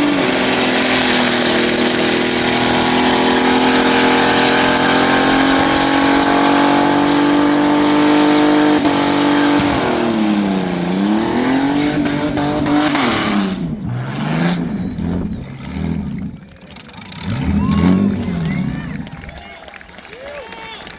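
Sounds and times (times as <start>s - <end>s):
car engine screaming at high revs: 0.0s - 19.3s.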